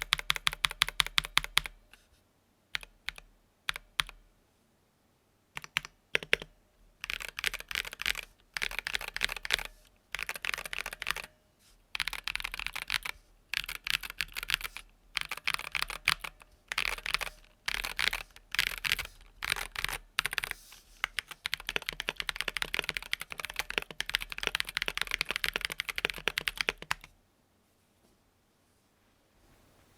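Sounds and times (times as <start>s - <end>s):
mechanical keyboard typing: 0.0s - 1.8s, 2.7s - 4.2s, 5.6s - 11.3s, 11.9s - 27.1s.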